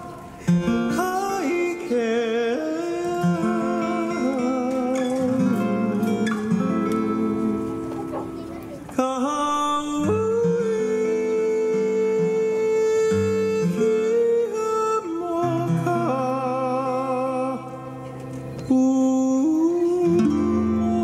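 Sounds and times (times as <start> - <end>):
plucked acoustic guitar: 0.0 - 21.0.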